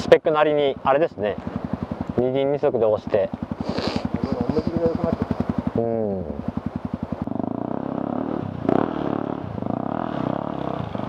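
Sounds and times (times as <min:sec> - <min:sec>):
motorcycle engine chugging and revving: 0:00.0 - 0:11.0.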